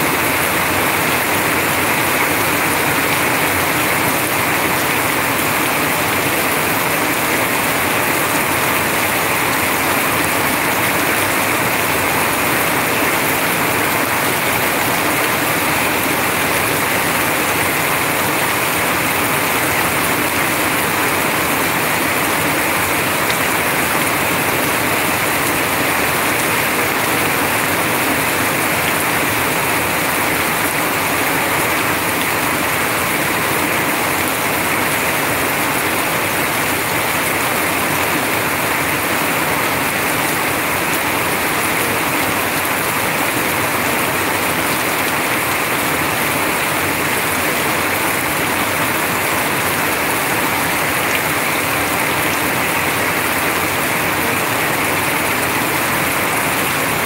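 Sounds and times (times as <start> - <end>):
heavy rain pouring: 0.0 - 57.0
water streaming off roof: 0.0 - 57.0.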